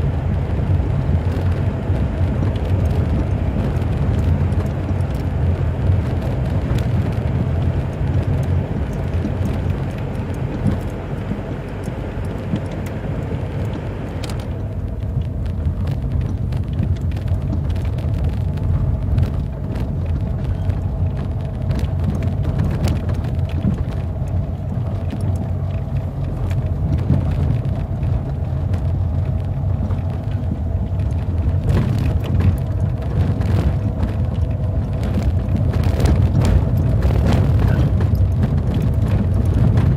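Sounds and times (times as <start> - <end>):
vehicle rumble: 0.0 - 39.9.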